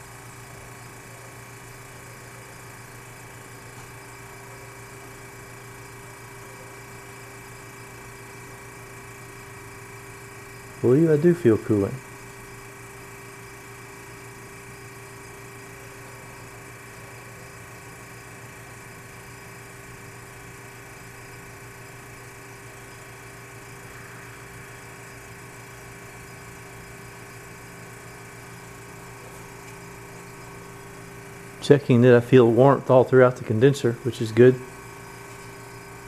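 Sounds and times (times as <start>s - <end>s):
refrigerator compressor humming: 0.0s - 36.0s.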